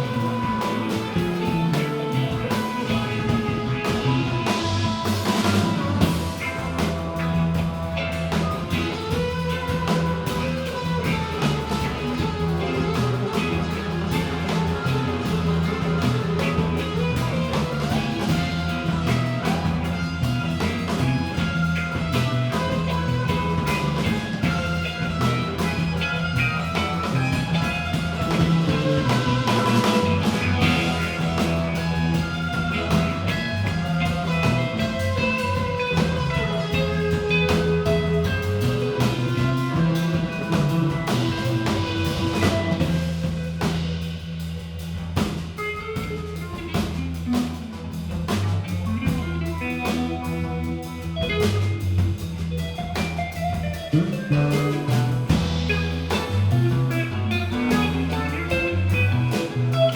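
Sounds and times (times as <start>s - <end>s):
drum kit: 0.0s - 59.9s
electric guitar playing: 0.0s - 59.9s
low bass line: 0.0s - 59.9s.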